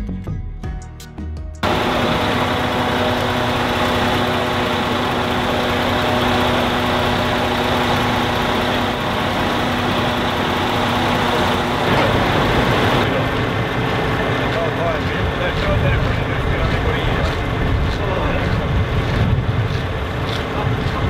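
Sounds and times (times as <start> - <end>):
diesel truck engine running: 1.6 - 21.0.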